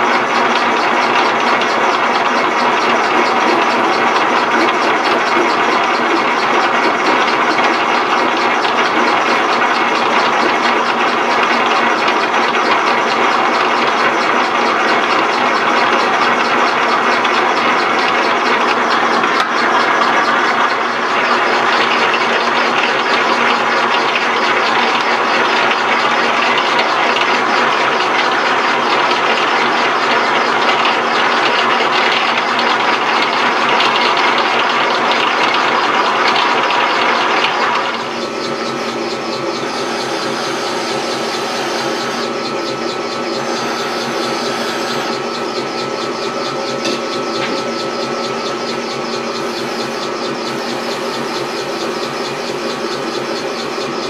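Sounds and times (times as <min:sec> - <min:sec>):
gear train clatter: 0:00.0 - 0:54.0
lathe cutting a thread: 0:00.0 - 0:54.0.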